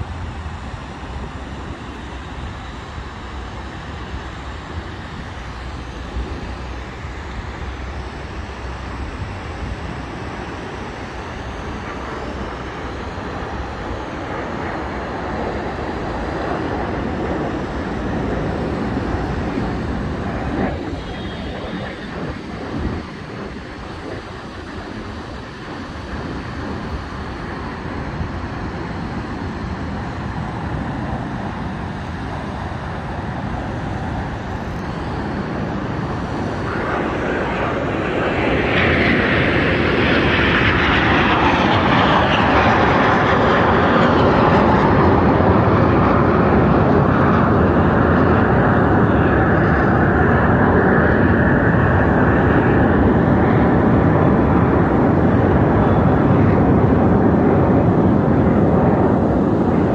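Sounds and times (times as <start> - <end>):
jet aircraft rushing engine noise: 0.0 - 59.9.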